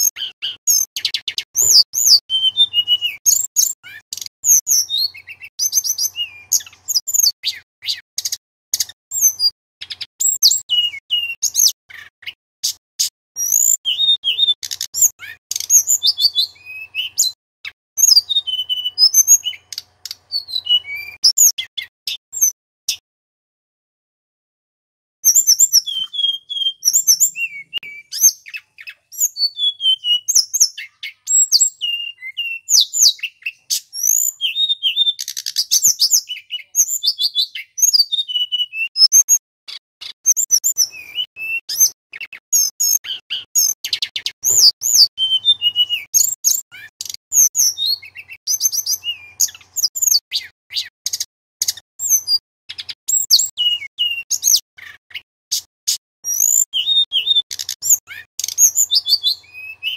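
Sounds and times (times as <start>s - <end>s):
bird singing whistles and trills: 0.0s - 23.0s, 25.3s - 59.9s.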